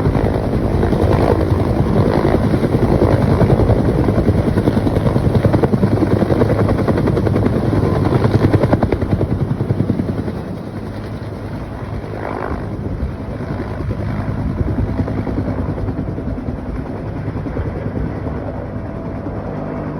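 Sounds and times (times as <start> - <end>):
helicopter rotor chop: 0.0 - 19.9.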